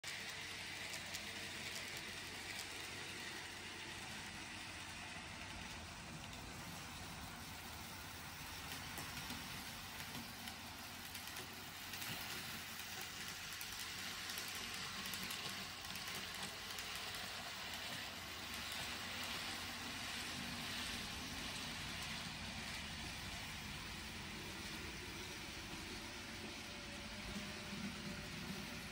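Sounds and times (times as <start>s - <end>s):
model train wheels whirring on rail: 0.0s - 28.9s.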